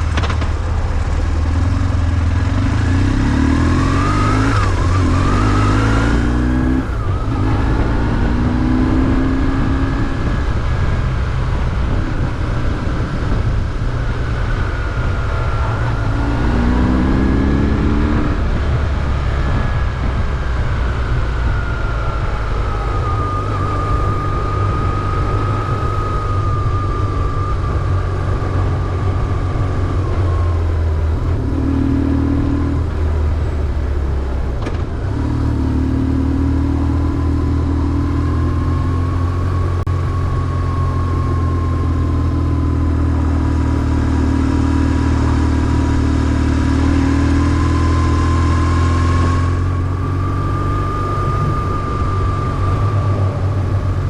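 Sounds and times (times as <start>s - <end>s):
motorcycle engine running: 0.0s - 54.0s
thin whine: 0.0s - 54.0s.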